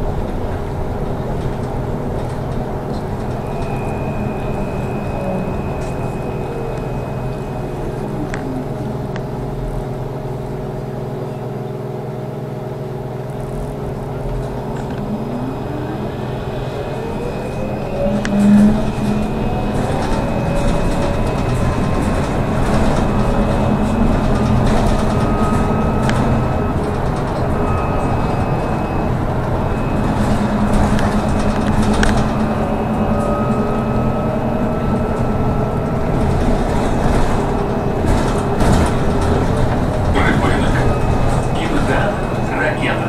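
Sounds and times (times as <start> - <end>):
electric traction drive whine: 0.0 - 43.0
road noise and rumble: 0.0 - 43.0.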